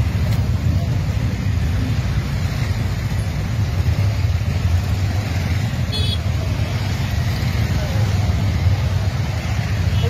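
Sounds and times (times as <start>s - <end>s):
motorcycles riding past: 0.0s - 10.0s.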